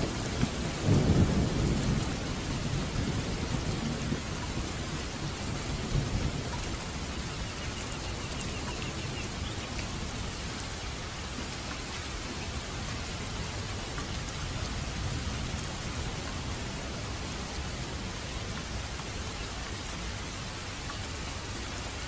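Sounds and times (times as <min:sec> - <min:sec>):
low rumble of thunder: 0:00.0 - 0:22.0
steady rain falling: 0:00.0 - 0:22.0.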